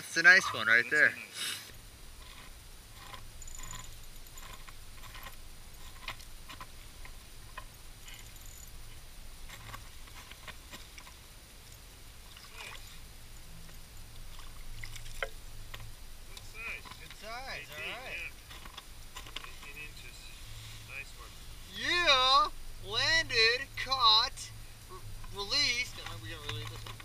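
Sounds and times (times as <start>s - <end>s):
low steady rumble: 1.7s - 27.0s.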